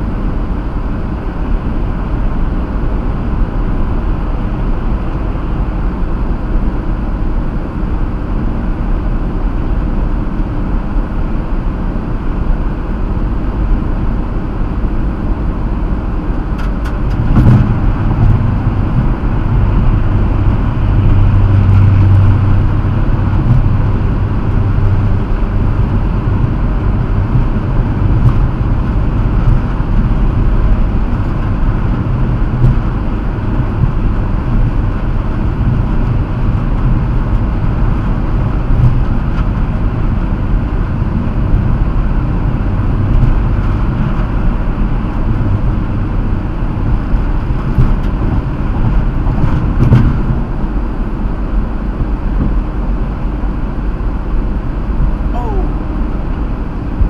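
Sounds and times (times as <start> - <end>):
car road noise drone: 0.0 - 57.0.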